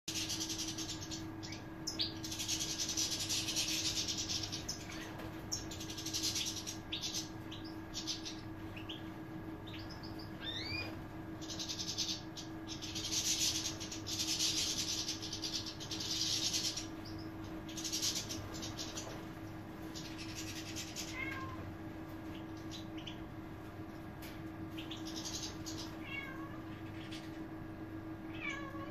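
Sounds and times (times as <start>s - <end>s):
finches twittering and calling: 0.1s - 21.6s, 22.2s - 23.3s, 24.2s - 27.5s
steady low hum: 0.1s - 28.9s.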